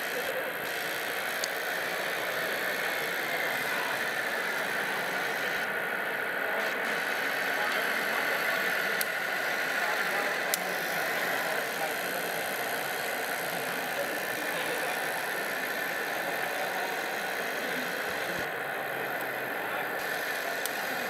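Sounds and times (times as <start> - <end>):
model tractor whirring: 0.0 - 21.0.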